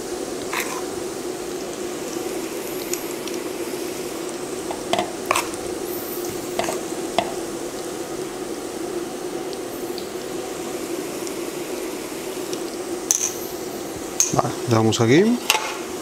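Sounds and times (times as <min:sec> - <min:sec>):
deep-frying sizzle in oil: 0:00.0 - 0:16.0.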